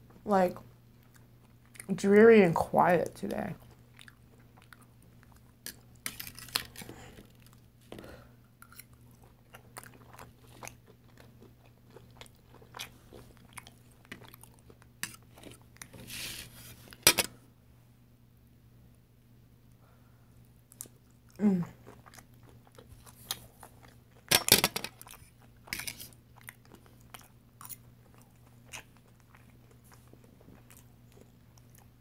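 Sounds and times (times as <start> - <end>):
close chewing and crunching: 0.0 - 2.0, 3.2 - 16.8, 20.4 - 32.0.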